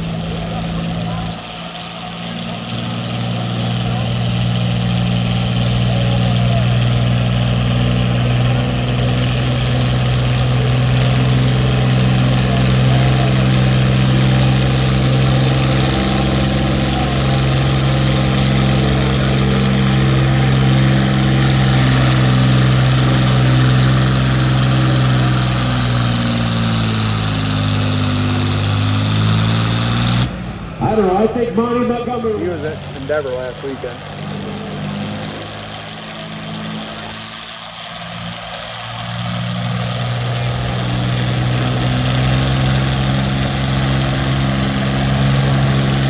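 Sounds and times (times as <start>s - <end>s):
tractor engine working under load: 0.0s - 46.0s.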